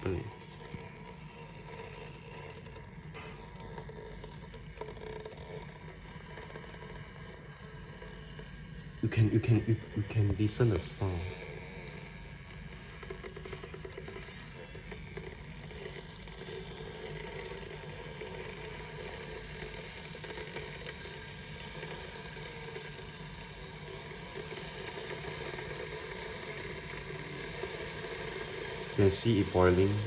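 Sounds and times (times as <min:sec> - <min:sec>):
electric kettle heating water: 0:00.0 - 0:30.0.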